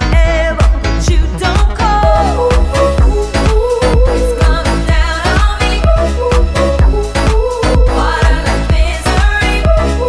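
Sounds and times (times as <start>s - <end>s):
dance beat: 0.0s - 10.0s
woman singing with vibrato: 0.0s - 10.0s.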